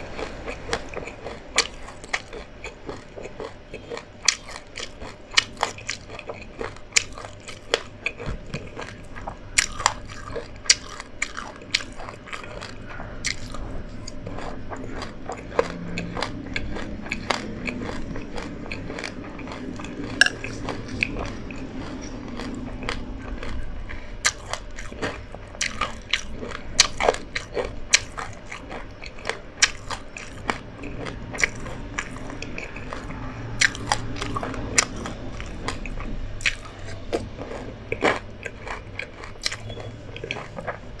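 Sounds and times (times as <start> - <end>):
chewing crunchy seeds: 0.0 - 41.0.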